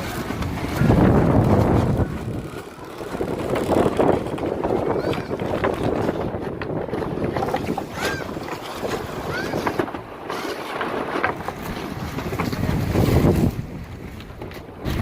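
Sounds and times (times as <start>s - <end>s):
water splashing against hull: 0.0s - 15.0s
wind buffeting microphone: 0.0s - 15.0s.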